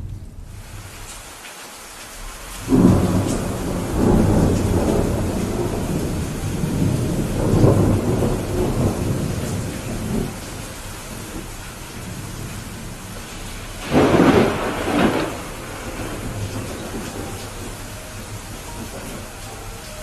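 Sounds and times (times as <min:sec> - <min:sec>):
steady rain: 0:00.0 - 0:20.0
thunder rumble: 0:02.2 - 0:20.0
sharp thunderclap: 0:02.6 - 0:19.2.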